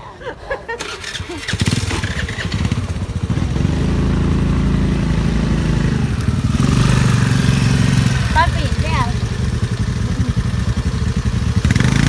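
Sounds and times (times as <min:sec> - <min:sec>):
motorbike engine running: 0:00.8 - 0:12.0.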